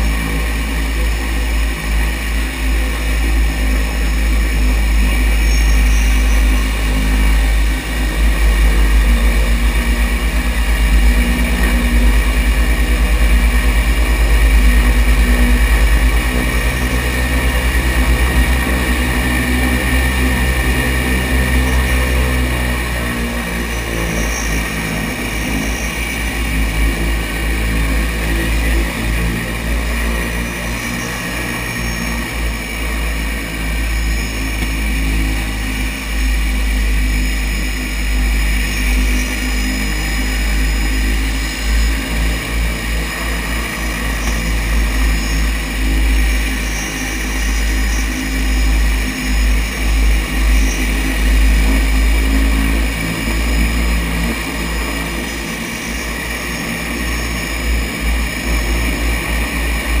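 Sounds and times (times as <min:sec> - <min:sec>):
high engine whine: 0:00.0 - 1:00.0
propeller engines rumbling: 0:00.0 - 1:00.0.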